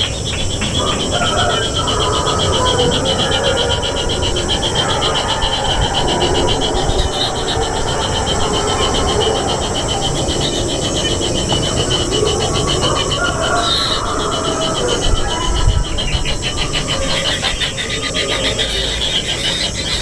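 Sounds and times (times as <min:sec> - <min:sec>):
insect trilling: 0:00.0 - 0:20.0
low rumbling noise: 0:00.0 - 0:20.0.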